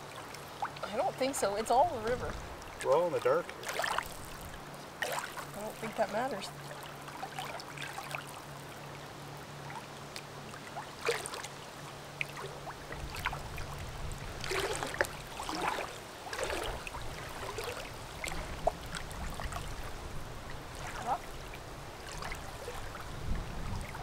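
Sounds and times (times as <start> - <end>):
low steady hum: 0.0 - 24.0
river water splashing: 0.0 - 24.0.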